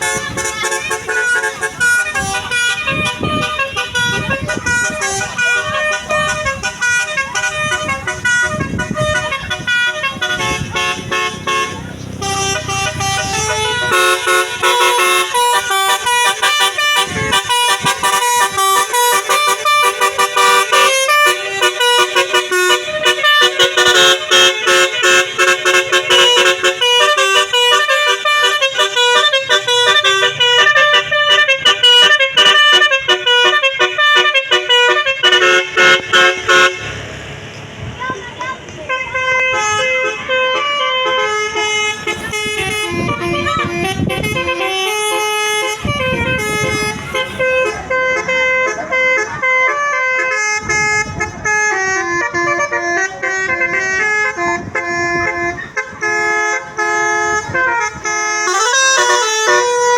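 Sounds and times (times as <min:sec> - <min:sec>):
musical bus horn melody: 0:00.0 - 0:37.3, 0:38.0 - 0:59.9.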